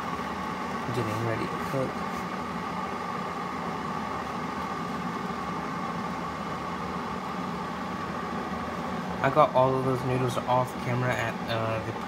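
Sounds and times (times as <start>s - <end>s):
mechanical hum with high whine: 0.0s - 12.0s.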